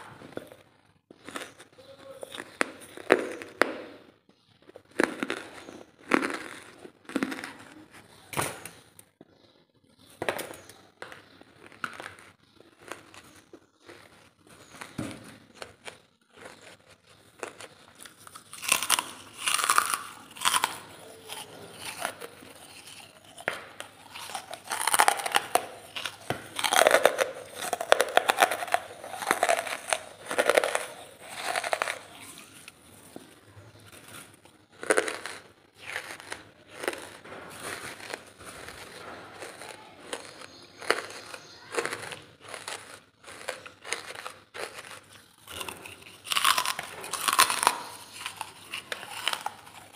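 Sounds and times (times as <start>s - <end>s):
chewing crunchy charcoal: 0.0s - 49.9s.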